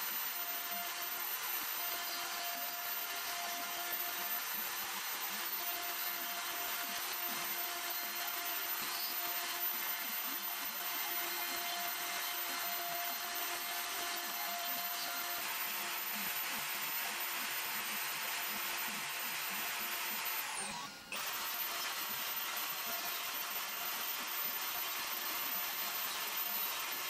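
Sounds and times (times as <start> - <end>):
bit cutting wood: 0.0 - 27.0
router spindle tone: 0.0 - 27.0.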